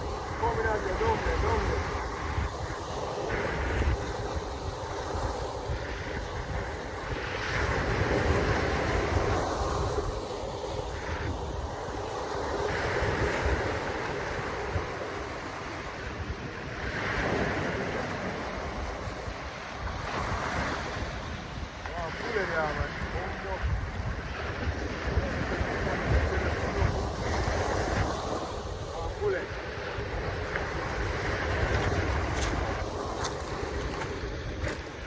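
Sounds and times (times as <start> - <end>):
rushing water: 0.0 - 35.0
wind buffeting microphone: 0.0 - 35.0.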